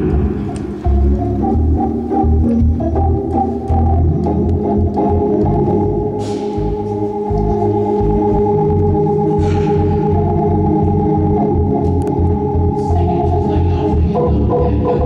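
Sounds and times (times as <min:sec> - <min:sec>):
electronic organ gospel chords: 0:00.0 - 0:15.0.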